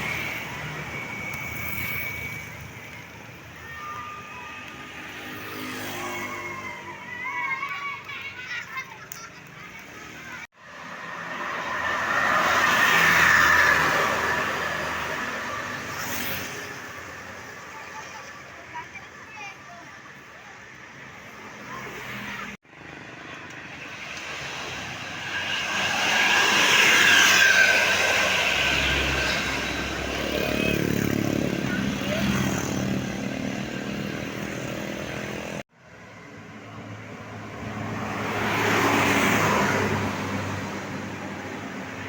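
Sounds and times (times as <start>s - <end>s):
vehicles driving past: 0.0s - 42.0s.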